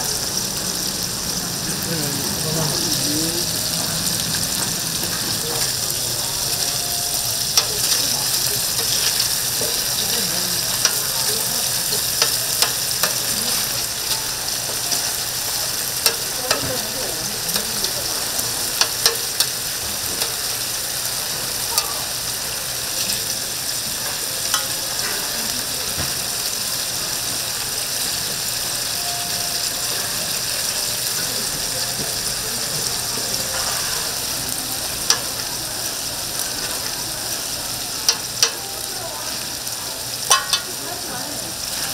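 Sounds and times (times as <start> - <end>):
meat patties sizzling: 0.0 - 41.9.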